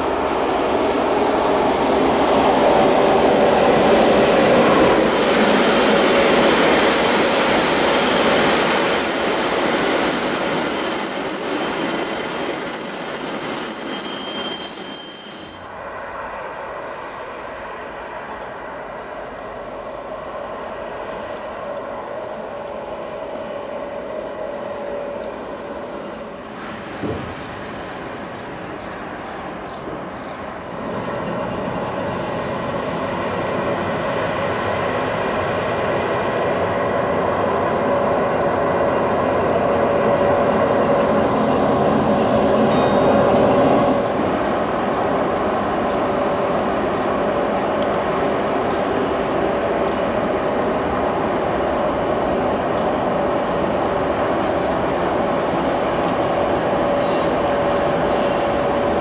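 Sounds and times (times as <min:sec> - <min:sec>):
train wheels rumbling on rail: 0:00.0 - 0:59.0
high wheel squeal: 0:02.3 - 0:59.0.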